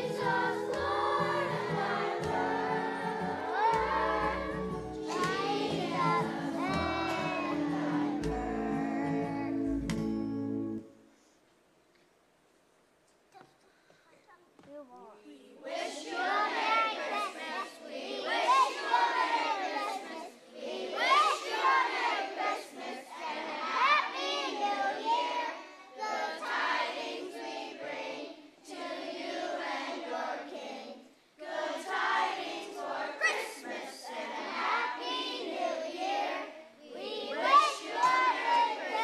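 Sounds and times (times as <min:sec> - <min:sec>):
children singing together: 0:00.0 - 0:10.2, 0:15.6 - 0:39.0.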